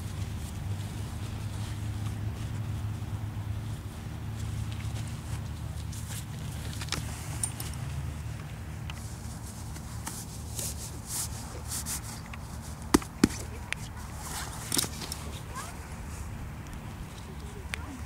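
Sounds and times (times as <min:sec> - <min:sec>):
nylon fabric rustling and scraping: 0:00.0 - 0:16.4.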